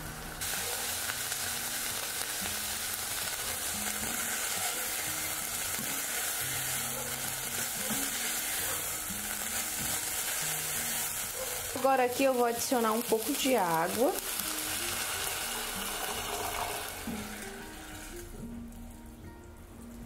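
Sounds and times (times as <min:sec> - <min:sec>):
meat sizzling in a pan: 0:00.0 - 0:18.4.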